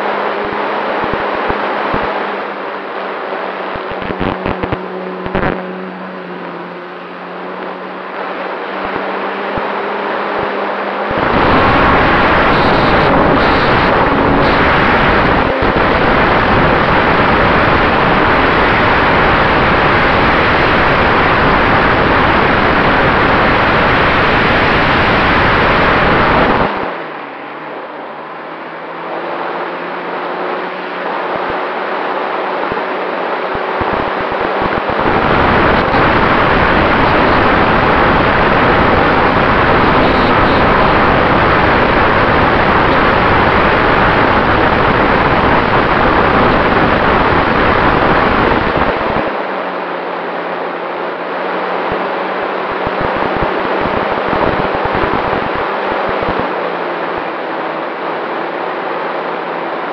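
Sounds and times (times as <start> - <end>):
model airplane propeller hum: 0.0 - 59.9.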